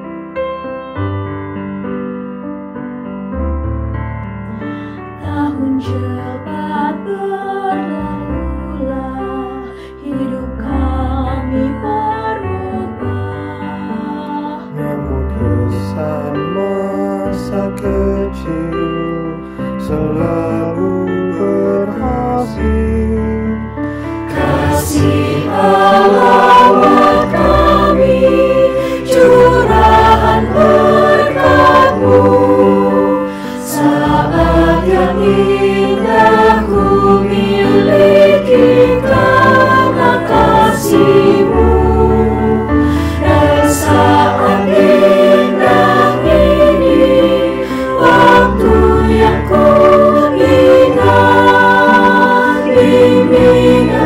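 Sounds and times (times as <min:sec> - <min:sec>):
choir singing a hymn: 0:05.1 - 0:18.6, 0:24.0 - 0:54.0.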